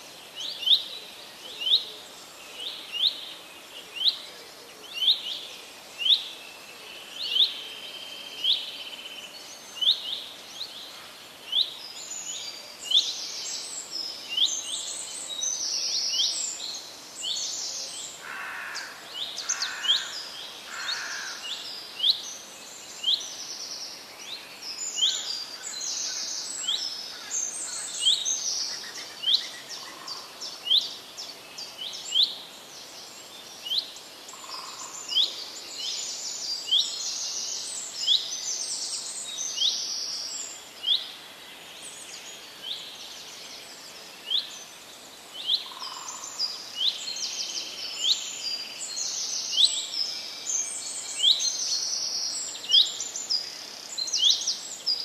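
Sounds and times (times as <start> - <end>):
birds chirping and trilling: 4.8 - 55.0.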